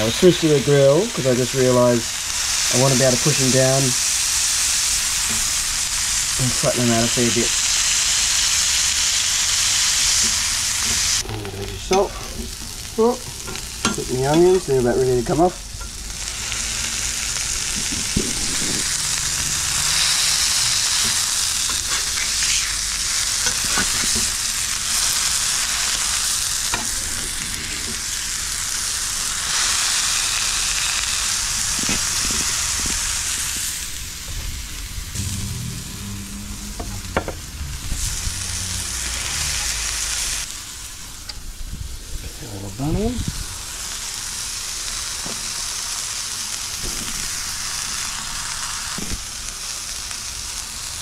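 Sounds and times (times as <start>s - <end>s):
food sizzling on a hotplate: 0.0s - 51.0s.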